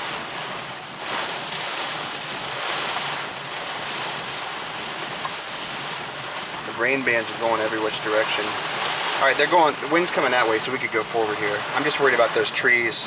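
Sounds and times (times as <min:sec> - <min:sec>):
raindrop ticks: 0:00.0 - 0:12.6
heavy rain pelting a car: 0:00.0 - 0:13.0.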